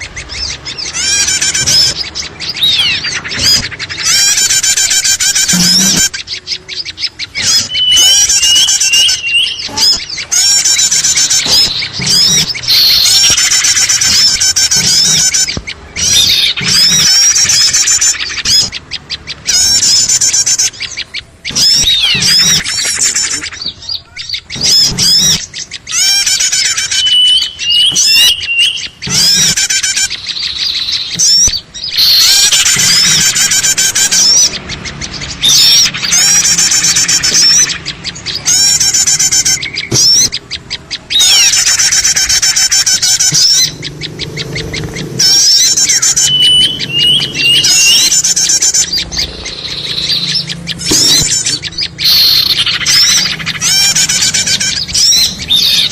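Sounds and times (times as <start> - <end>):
small birds chirping and chattering: 0.0 - 55.9.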